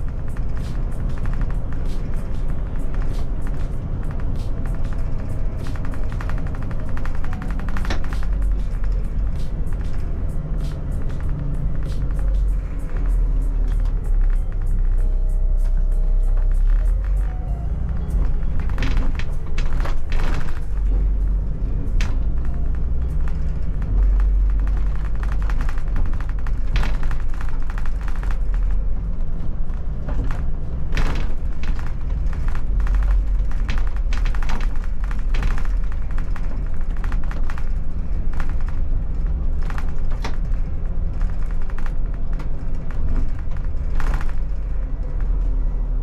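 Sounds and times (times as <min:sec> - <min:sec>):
bus engine and road rumble: 0:00.0 - 0:46.0
bus knocking and rattling: 0:00.0 - 0:46.0.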